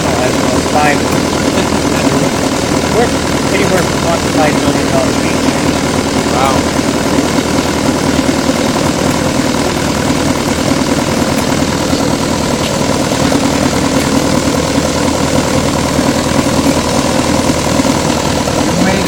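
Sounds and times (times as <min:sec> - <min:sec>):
small gasoline engine idling: 0:00.0 - 0:19.0.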